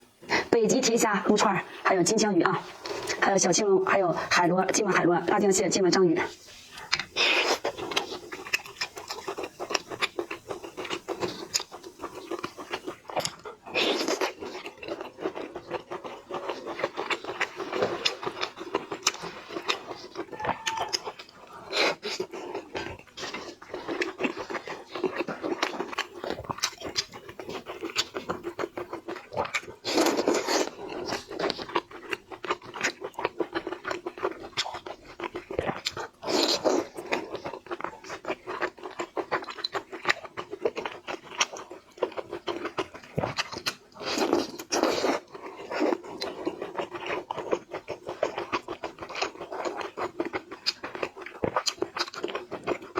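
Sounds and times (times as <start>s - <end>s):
crunching and chewing food: 0.0s - 52.9s.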